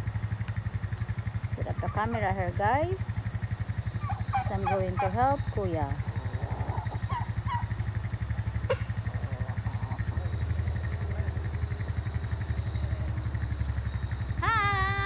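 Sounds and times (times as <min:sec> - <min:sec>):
farm vehicle engine running: 0:00.0 - 0:15.0.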